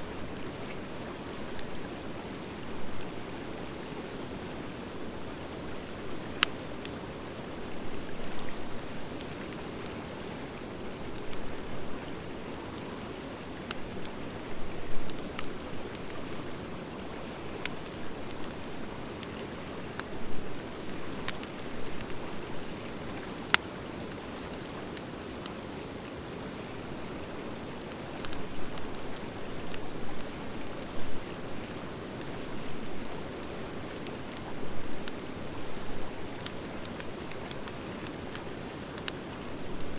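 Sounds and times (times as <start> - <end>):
fire crackles and pops: 0.0 - 39.9
wood fire burning: 0.0 - 39.9.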